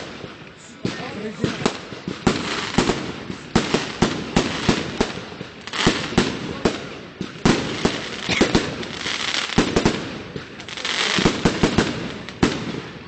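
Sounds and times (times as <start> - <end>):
hissing crackle of fireworks: 0.0 - 13.0.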